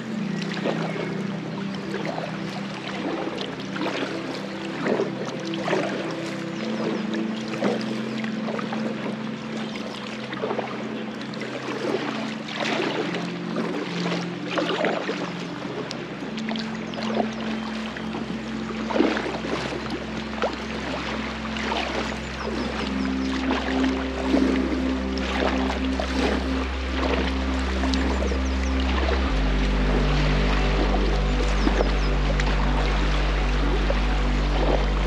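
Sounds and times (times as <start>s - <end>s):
background music with low notes: 0.0s - 35.0s
river water splashing around raft: 0.0s - 35.0s.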